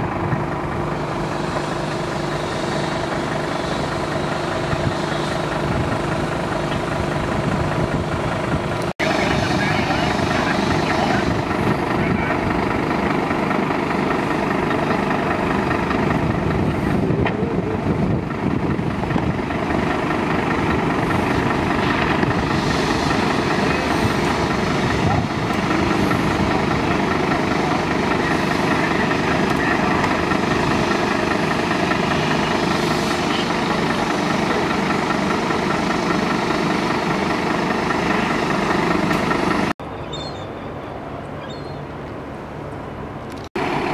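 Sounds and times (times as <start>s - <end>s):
diesel engine running steadily: 0.0s - 43.9s.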